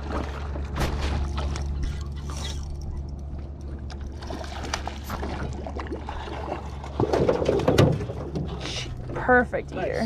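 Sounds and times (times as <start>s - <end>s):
steady low hum: 0.0s - 10.0s
water sloshing against boat: 0.0s - 10.0s.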